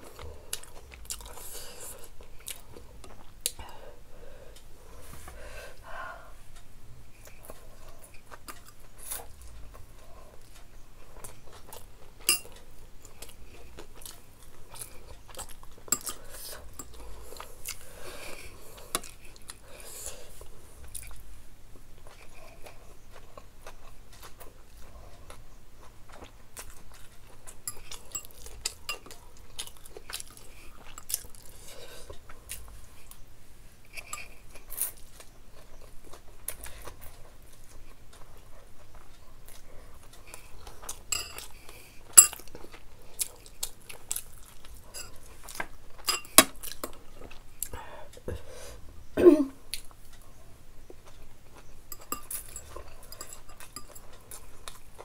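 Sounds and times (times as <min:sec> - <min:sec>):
person chewing and slurping noodles: 0:00.0 - 0:03.6, 0:07.1 - 0:21.2, 0:22.0 - 0:48.5, 0:50.9 - 0:55.0.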